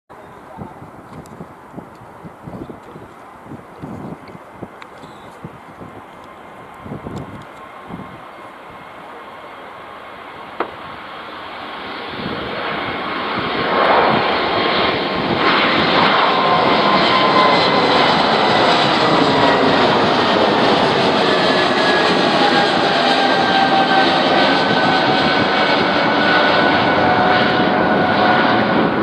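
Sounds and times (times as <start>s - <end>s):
jet airliner passing at takeoff: 0.1s - 29.0s.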